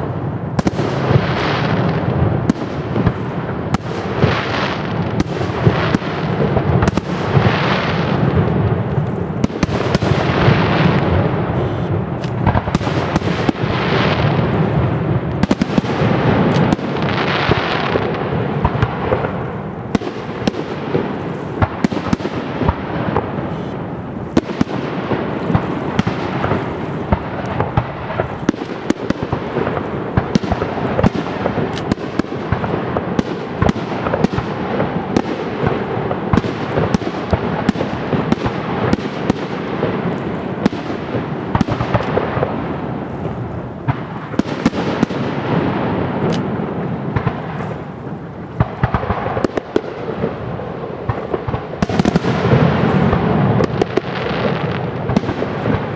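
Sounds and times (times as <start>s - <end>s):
fireworks bangs and cracks: 0.0s - 55.9s
rushing hiss of fireworks: 0.0s - 55.9s.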